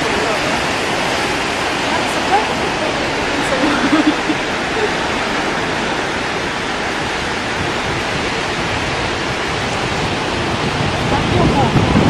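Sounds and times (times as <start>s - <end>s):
storm waves breaking: 0.0s - 12.0s.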